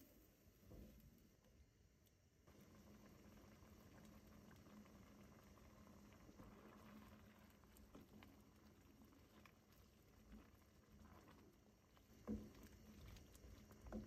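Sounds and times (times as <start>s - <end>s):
faint simmering in a pan: 0.0s - 14.0s.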